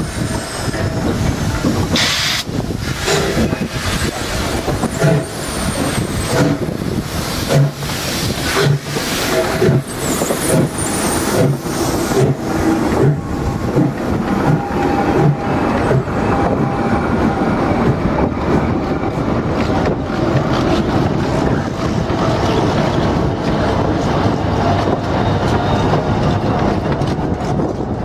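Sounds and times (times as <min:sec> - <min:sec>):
locomotives rolling: 0:00.0 - 0:28.0
steam locomotive exhaust beats: 0:00.0 - 0:28.0.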